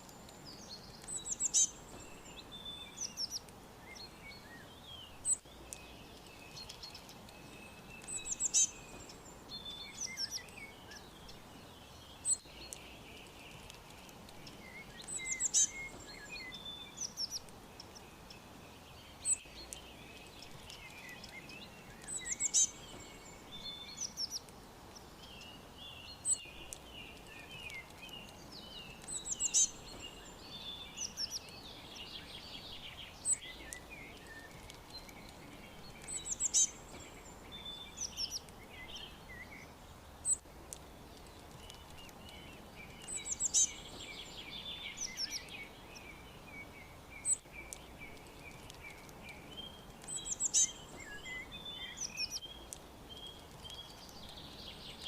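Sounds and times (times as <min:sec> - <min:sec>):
birds chirping softly: 0:00.0 - 0:55.0
faint steady hiss: 0:00.0 - 0:55.0
songbirds singing: 0:00.0 - 0:55.0.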